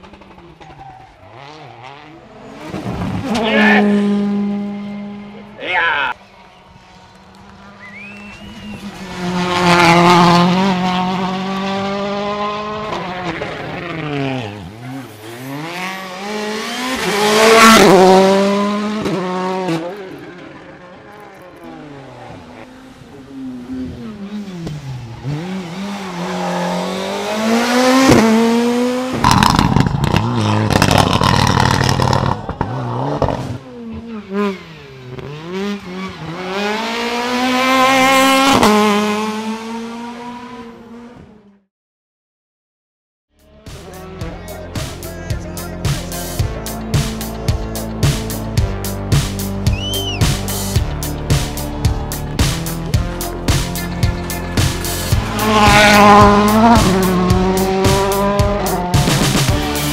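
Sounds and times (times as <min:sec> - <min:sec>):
rally car engines passing: 0:00.0 - 0:41.6, 0:43.4 - 0:59.9.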